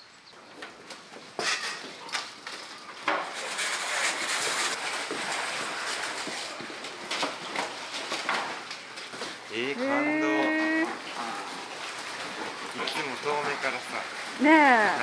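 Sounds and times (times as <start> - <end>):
baskets rushing and rubbing: 1.4 - 15.0.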